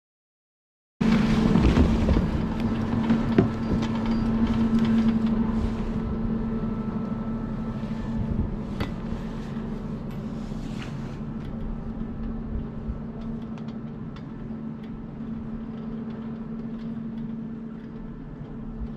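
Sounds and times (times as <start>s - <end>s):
chairlift machine hum: 1.0s - 18.9s.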